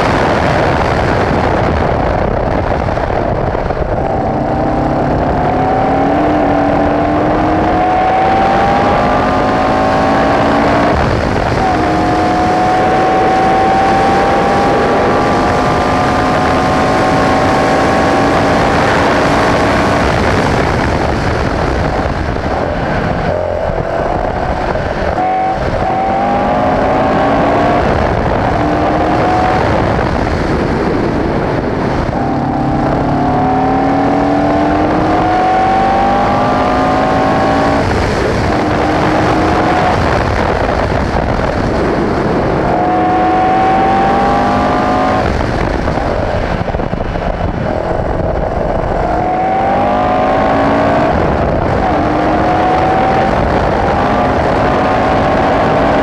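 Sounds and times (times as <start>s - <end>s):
heavy wind noise: 0.0s - 56.0s
racing car engine revving: 0.0s - 56.0s.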